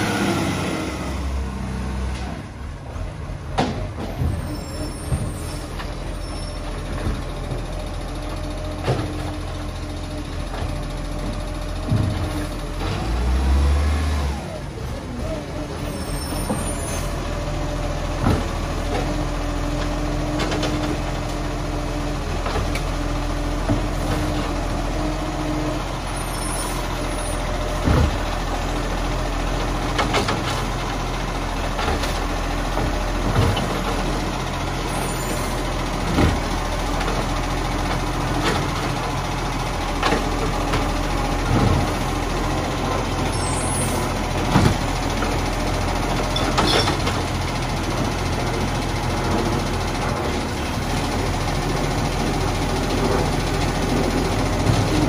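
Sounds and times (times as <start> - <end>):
diesel engine rumble: 0.0 - 55.0.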